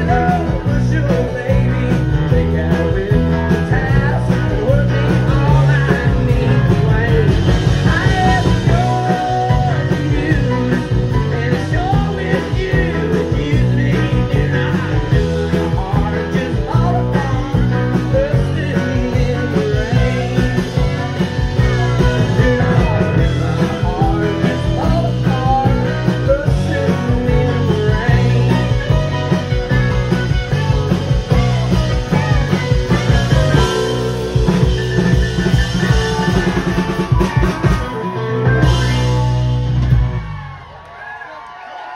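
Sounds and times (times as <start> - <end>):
man singing lead: 0.0 - 39.7
country band playing live: 0.0 - 41.9.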